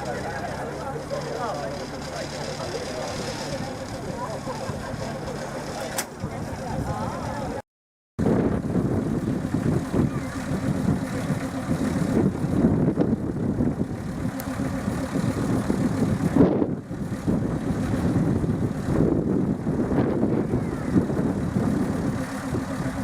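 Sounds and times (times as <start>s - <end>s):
miniature train rumbling: 0.0s - 7.6s, 8.3s - 23.0s.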